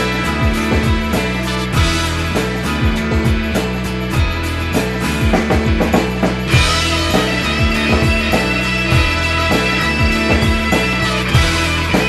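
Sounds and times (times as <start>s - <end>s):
drum kit beating: 0.0s - 12.0s
rock theme music: 0.0s - 12.0s.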